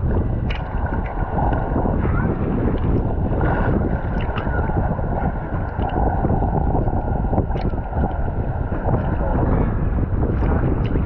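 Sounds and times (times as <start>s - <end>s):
waves sloshing: 0.0s - 11.0s
wind buffeting microphone: 0.0s - 11.0s.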